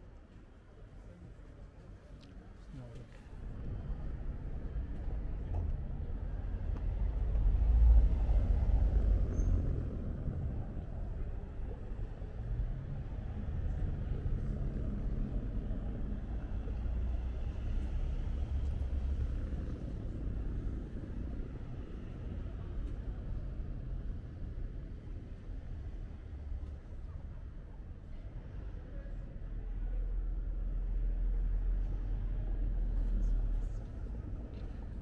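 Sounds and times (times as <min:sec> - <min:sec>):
low rumble of city street: 0:00.0 - 0:35.0.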